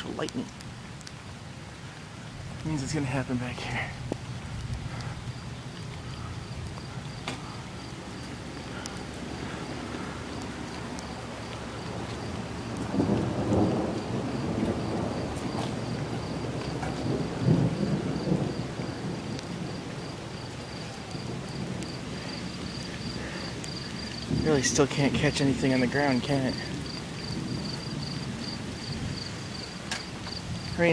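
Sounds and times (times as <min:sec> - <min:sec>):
steady rain: 0:00.0 - 0:30.9
rolling thunder: 0:02.4 - 0:30.9
high insect chirping: 0:03.9 - 0:30.9.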